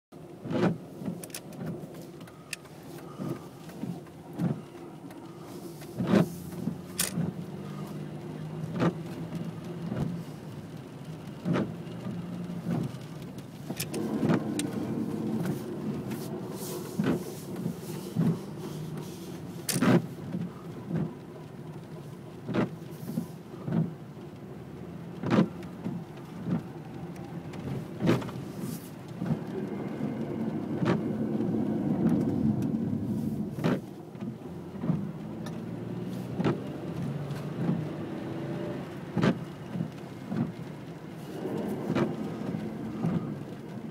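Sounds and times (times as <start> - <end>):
raindrops tapping hard surface: 0.4 - 43.9.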